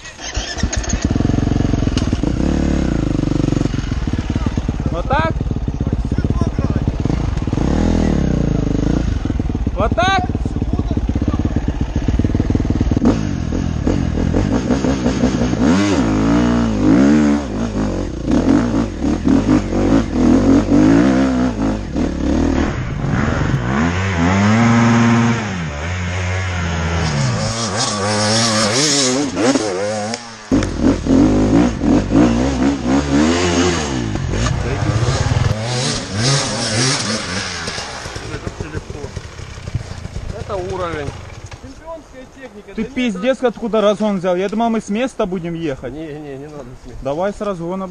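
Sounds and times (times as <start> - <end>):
motorcycle engine revving: 0.0 - 42.2.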